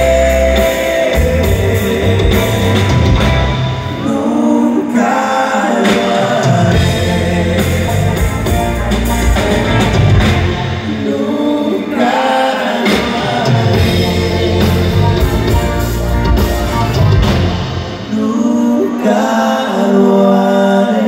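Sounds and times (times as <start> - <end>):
live band music with singing: 0.0 - 21.0.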